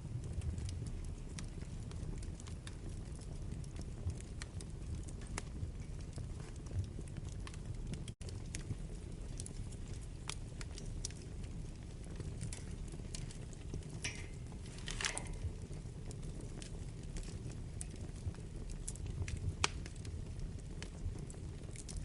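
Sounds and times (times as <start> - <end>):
burning logs crackling and popping: 0.0 - 22.0
fire rumbling in fireplace: 0.0 - 22.0.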